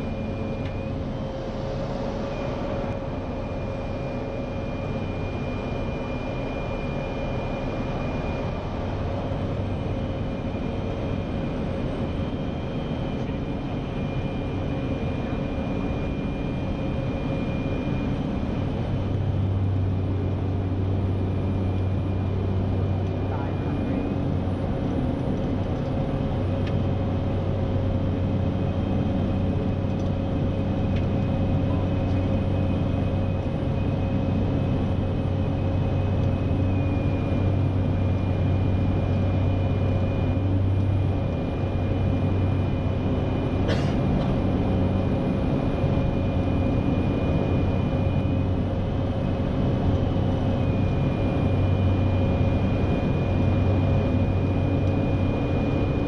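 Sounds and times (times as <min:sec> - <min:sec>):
turboprop engine drone with whine: 0:00.0 - 0:56.0.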